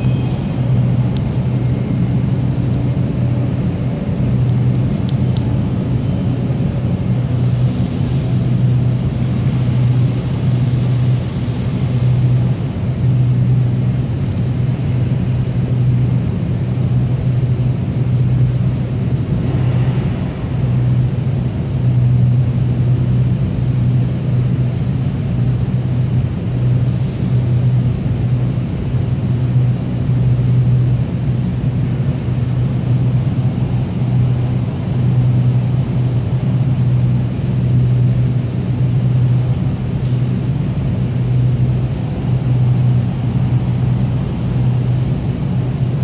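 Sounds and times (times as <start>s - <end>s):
machinery humming and rushing: 0.0s - 46.0s.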